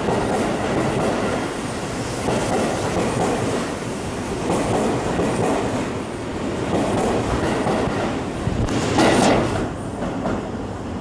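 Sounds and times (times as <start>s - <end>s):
electric train running past: 0.0s - 11.0s.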